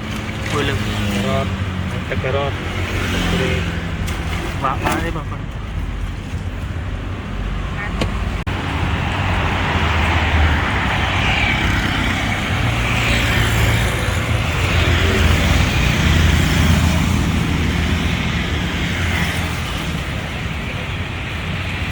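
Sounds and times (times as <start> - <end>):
cars passing: 0.0 - 21.9
motorbikes passing: 0.0 - 21.9.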